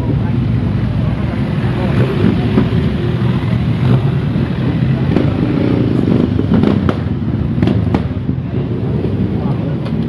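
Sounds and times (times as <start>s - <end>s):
motorcycle engines running: 0.0s - 10.0s.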